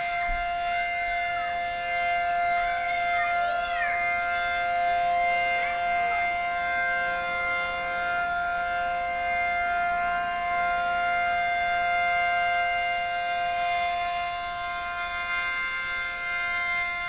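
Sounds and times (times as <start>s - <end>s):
warning siren steady chord: 0.0s - 17.0s.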